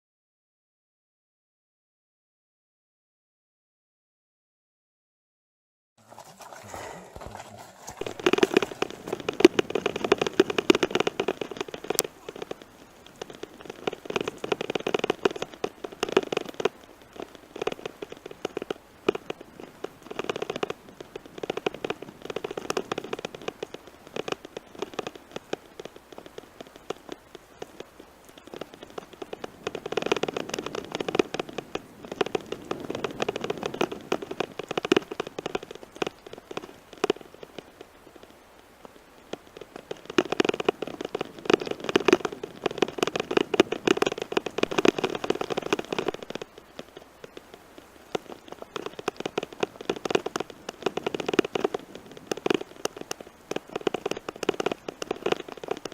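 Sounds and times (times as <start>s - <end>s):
tyres rolling over gravel: 6.0s - 26.0s, 26.8s - 37.8s, 39.3s - 55.9s.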